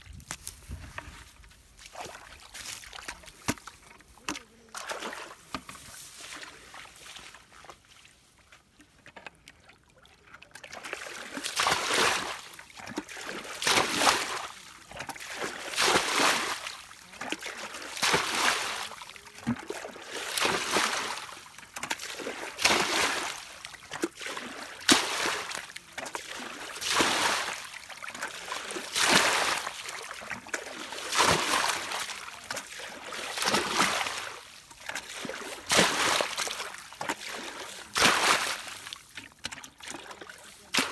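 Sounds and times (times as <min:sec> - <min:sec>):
bucket scooping water: 0:00.0 - 0:40.9.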